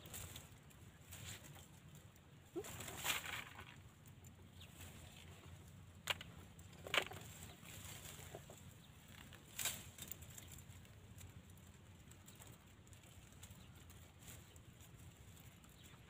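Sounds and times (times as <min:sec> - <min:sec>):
stems snapping and leaves rustling: 0:00.0 - 0:16.0.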